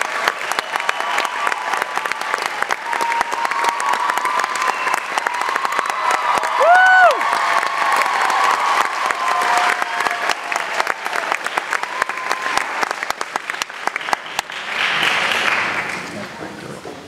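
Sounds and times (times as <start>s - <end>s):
audience applauding: 0.0s - 16.6s.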